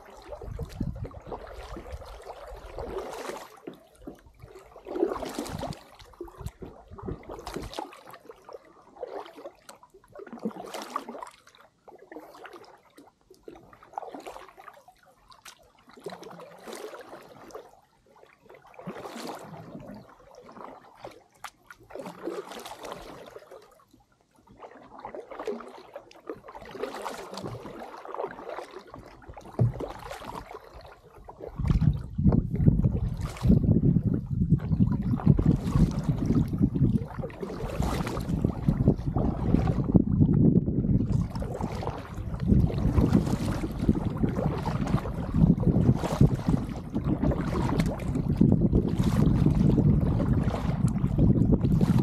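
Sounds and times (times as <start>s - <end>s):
paddle strokes in water: 0.0s - 52.0s.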